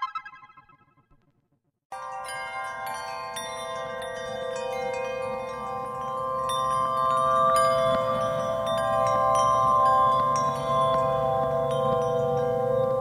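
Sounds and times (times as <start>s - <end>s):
chiming bell-like notes: 1.9s - 13.0s.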